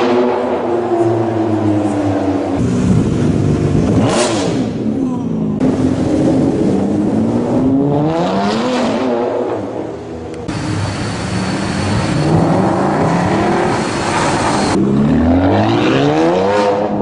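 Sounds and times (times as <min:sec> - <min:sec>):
car engine revving: 0:00.0 - 0:05.0, 0:05.6 - 0:17.0.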